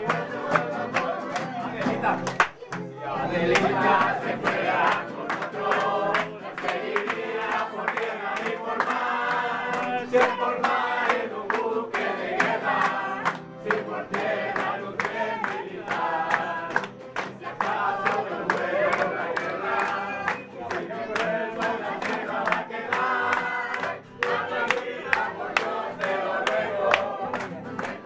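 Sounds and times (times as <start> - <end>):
acoustic guitar: 0.0 - 28.0
group of voices singing: 0.0 - 28.0.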